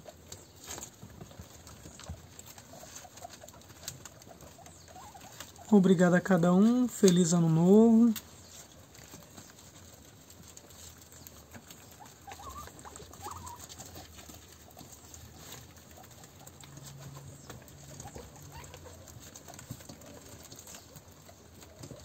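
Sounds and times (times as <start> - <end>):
guinea pig squeaks: 0.0 - 7.2, 10.5 - 22.0
guinea pigs chewing grass: 0.0 - 22.0.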